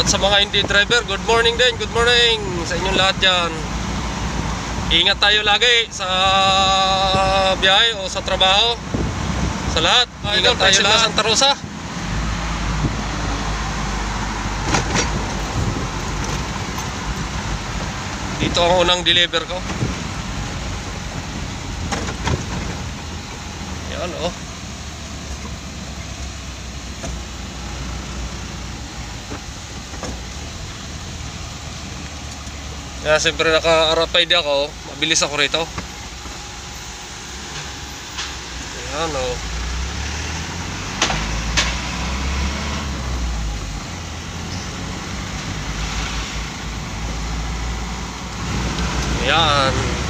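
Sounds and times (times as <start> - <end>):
road noise: 0.0 - 50.0
vehicle engine hum: 0.0 - 50.0.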